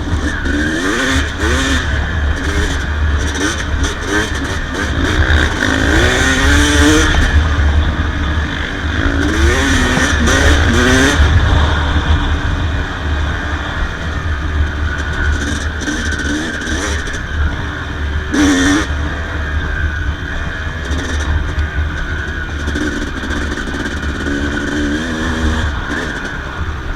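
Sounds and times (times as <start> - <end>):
two-stroke engine revving: 0.0 - 26.9.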